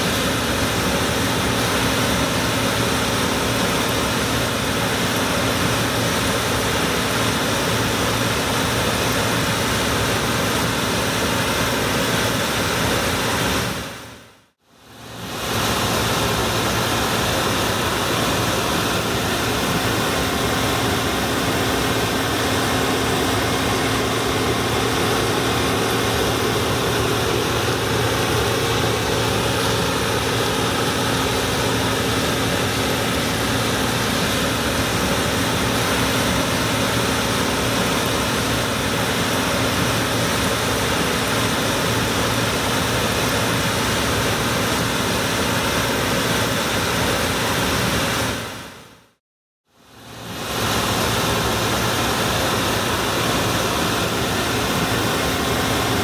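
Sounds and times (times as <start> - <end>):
combine harvester engine drone: 0.0 - 14.2, 14.8 - 48.7, 49.9 - 56.0.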